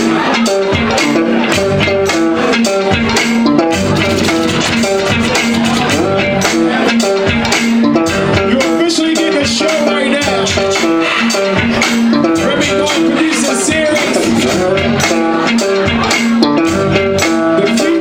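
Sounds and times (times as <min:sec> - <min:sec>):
bass: 0:00.0 - 0:18.0
guitar melody: 0:00.0 - 0:18.0
steady drum beat: 0:00.0 - 0:18.0.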